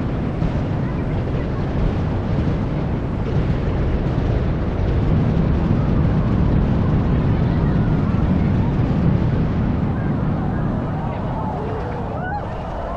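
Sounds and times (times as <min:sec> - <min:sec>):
fireworks barrage rumbling: 0:00.0 - 0:12.9.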